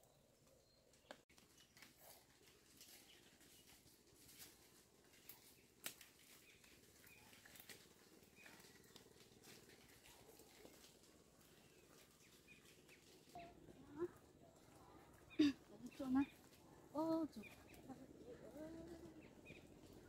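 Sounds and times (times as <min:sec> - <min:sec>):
small clicks and rustles: 0:00.4 - 0:20.0.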